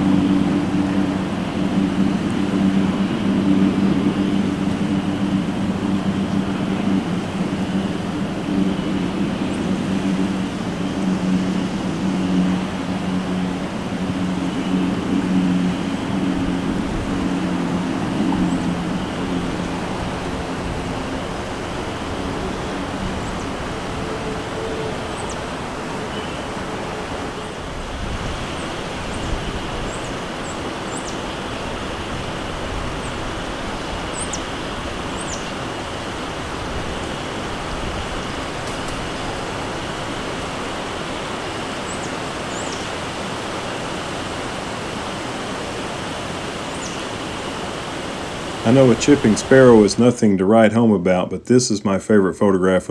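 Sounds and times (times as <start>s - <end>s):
low engine hum: 0.0s - 50.4s
steady rushing noise: 0.0s - 52.9s.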